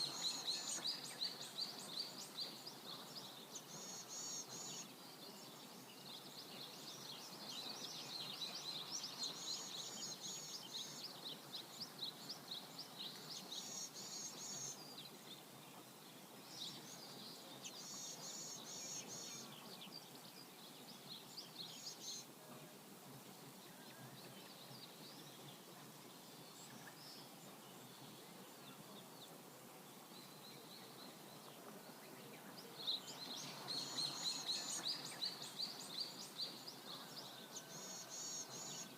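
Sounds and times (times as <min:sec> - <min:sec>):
river flowing: 0:00.0 - 0:38.9
songbirds chirping: 0:00.0 - 0:38.9.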